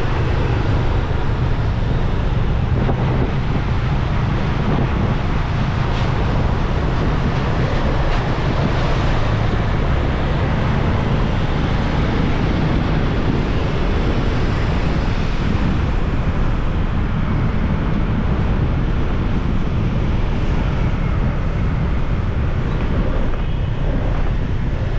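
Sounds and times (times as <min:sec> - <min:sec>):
road noise: 0:00.0 - 0:24.9
wind rushing over microphone: 0:00.0 - 0:24.9.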